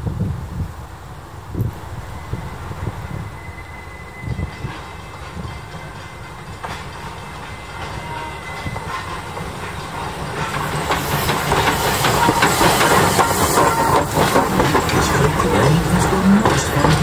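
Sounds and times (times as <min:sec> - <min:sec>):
steam locomotive hissing steam: 0:01.6 - 0:17.0
train wheels clacking on rail joints: 0:01.7 - 0:17.0.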